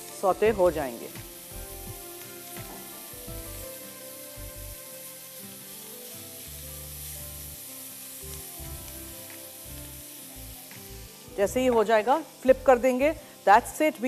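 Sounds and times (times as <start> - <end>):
faint background music: 0.0 - 14.0
food sizzling in a wok: 0.0 - 14.0.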